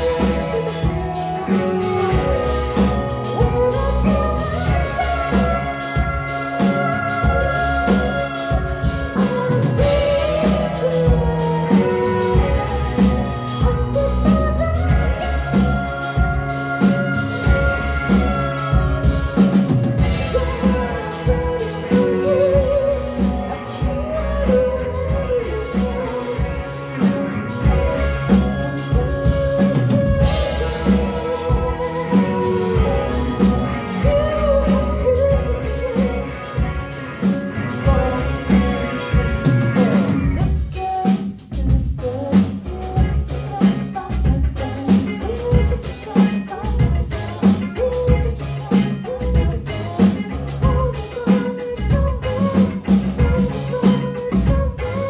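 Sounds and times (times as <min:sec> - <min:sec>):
drum kit beat: 0:00.0 - 0:55.0
live band playing: 0:00.0 - 0:55.0
woman singing: 0:00.0 - 0:55.0.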